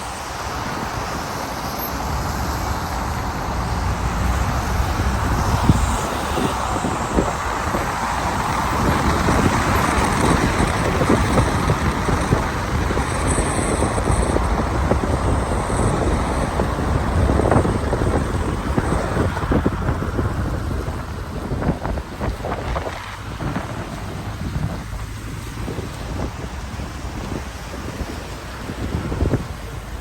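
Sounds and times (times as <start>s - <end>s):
car and tyres rumbling: 0.0s - 30.0s.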